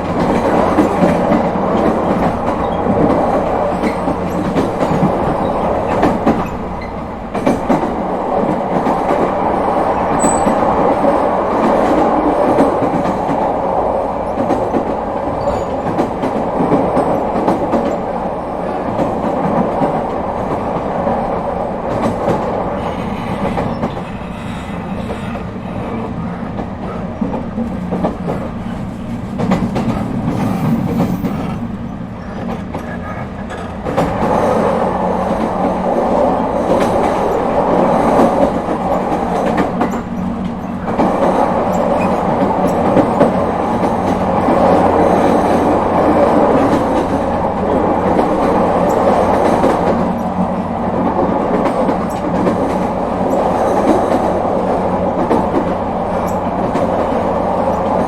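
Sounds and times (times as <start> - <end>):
clickety-clack of rail joints: 0.0 - 58.0
train wheels rumbling on rail: 0.0 - 58.0.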